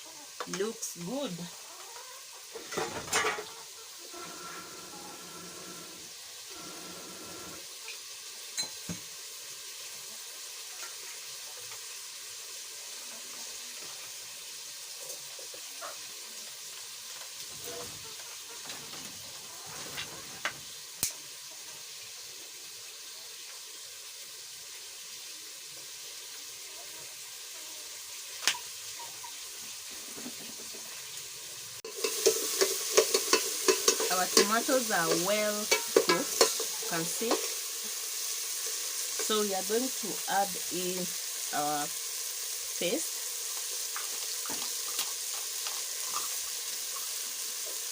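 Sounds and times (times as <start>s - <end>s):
vegetables sizzling in oil: 0.0s - 47.9s.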